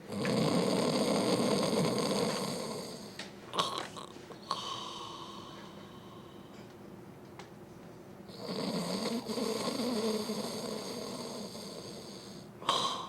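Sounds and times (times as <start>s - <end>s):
person snoring: 0.1s - 6.4s, 8.3s - 13.0s.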